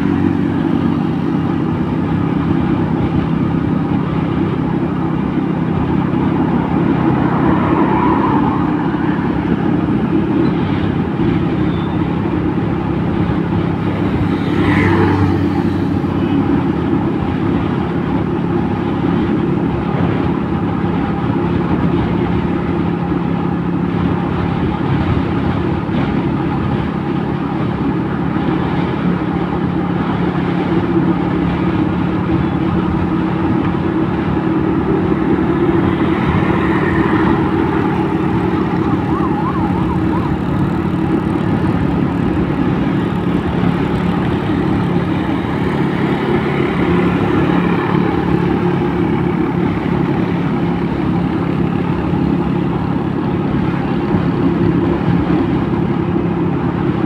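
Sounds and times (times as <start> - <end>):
road and wind noise: 0.0 - 57.0
vehicle engine cruising: 0.0 - 57.0.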